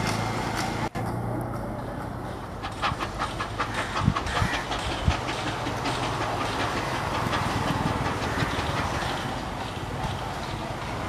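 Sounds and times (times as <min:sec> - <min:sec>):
steam locomotive hiss and rumble: 0:00.0 - 0:11.0
wheels clicking over rail joints: 0:00.0 - 0:11.0.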